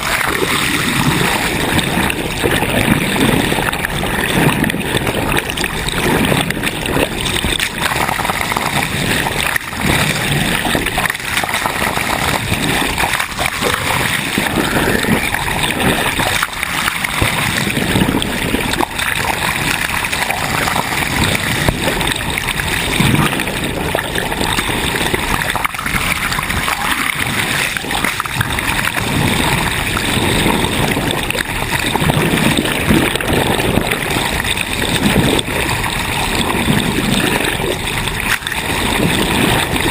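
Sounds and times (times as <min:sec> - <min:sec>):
sea water splashing along hull: 0:00.0 - 0:39.9.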